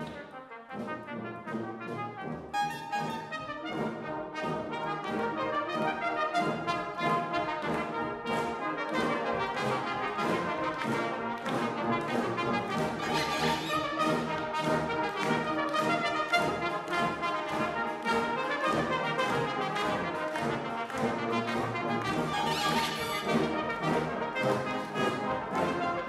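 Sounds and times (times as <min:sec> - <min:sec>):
brass band playing: 0:00.0 - 0:26.0.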